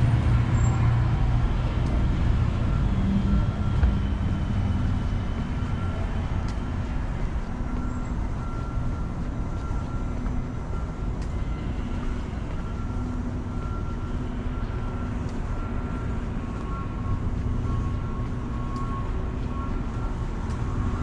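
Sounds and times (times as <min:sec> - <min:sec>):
lower electronic beep: 0:00.0 - 0:21.0
street traffic rumble: 0:00.0 - 0:21.0
faint electronic beep: 0:01.8 - 0:21.0.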